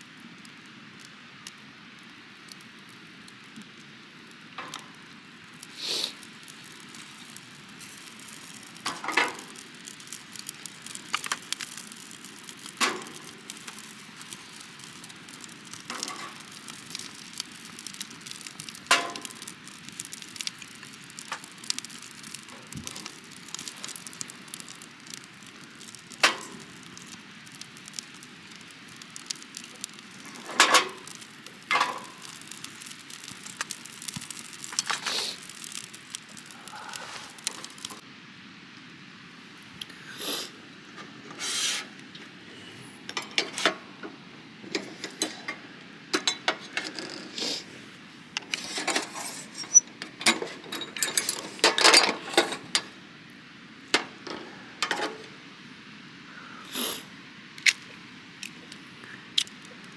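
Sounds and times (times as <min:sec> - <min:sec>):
wood fire crackling: 0:00.0 - 0:59.9
fire popping sharply: 0:02.0 - 0:38.0, 0:39.6 - 0:55.4.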